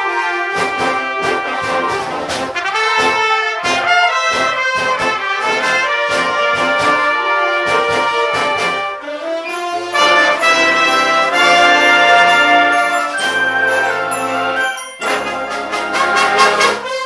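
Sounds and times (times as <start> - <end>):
trumpet playing fast notes: 0.0 - 17.0.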